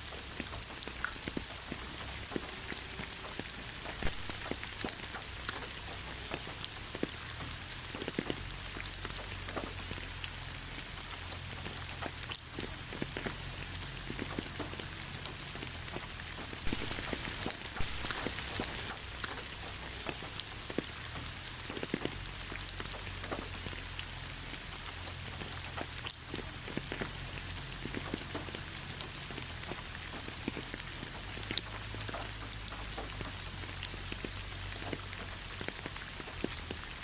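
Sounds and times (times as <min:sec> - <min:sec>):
steady rain hiss: 0:00.0 - 0:37.0
water drips: 0:00.0 - 0:37.0.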